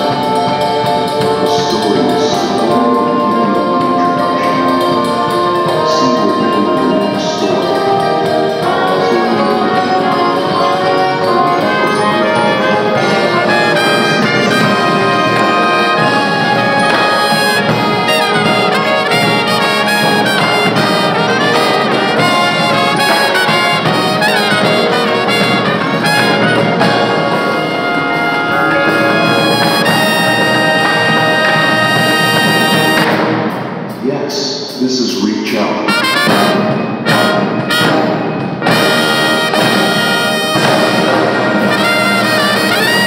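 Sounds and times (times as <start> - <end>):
brass band playing chords: 0.0 - 43.0.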